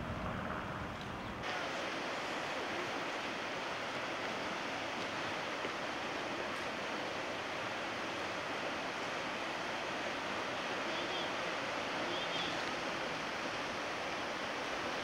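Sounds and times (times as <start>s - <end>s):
rushing floodwater: 0.1s - 15.0s.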